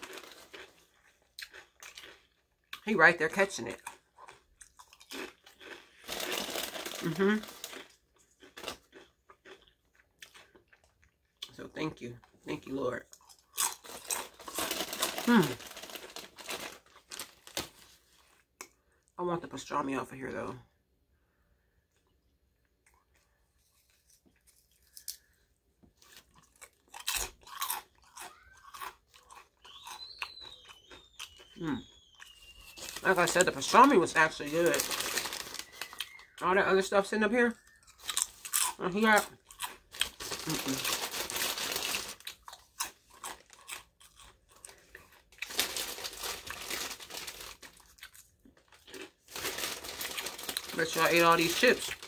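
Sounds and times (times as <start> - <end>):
chip crunching and chewing: 0.0 - 18.9, 21.9 - 52.0.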